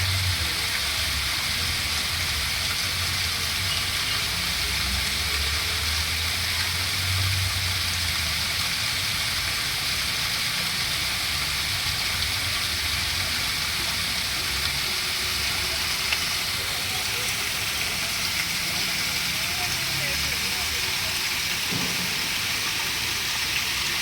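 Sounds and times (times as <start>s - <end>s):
flowing water rushing: 0.0s - 24.0s.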